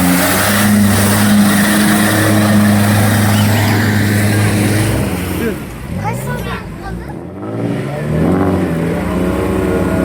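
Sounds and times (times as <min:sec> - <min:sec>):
engine running at high revs: 0:00.0 - 0:06.5, 0:07.1 - 0:10.0.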